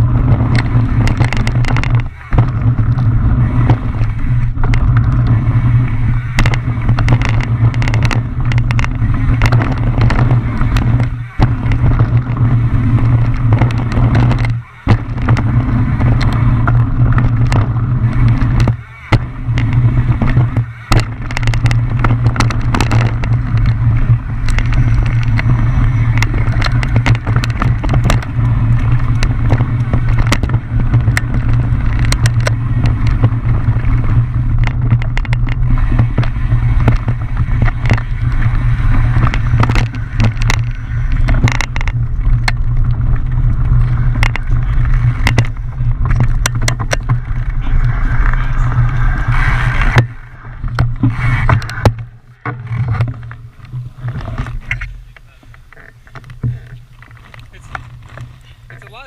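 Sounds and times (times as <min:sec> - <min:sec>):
bike rattling and knocking: 0:00.0 - 0:59.0
wind rumble on microphone: 0:00.0 - 0:59.0.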